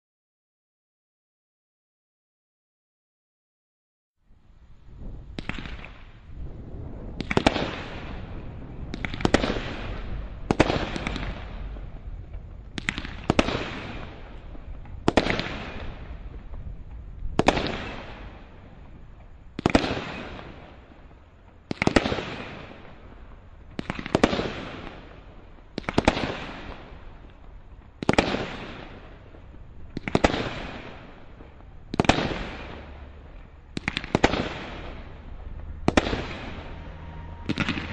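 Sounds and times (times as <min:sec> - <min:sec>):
roman candle shots with hiss: 0:04.3 - 0:37.9.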